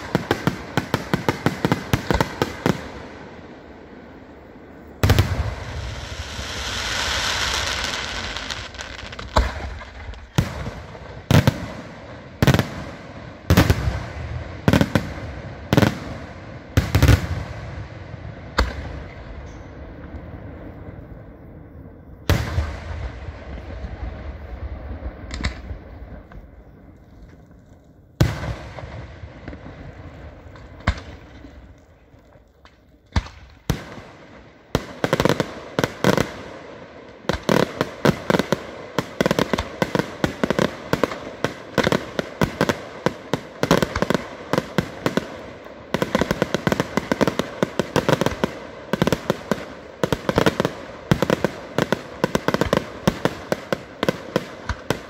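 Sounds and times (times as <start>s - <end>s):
firework barrage with crackles: 0.0s - 55.0s.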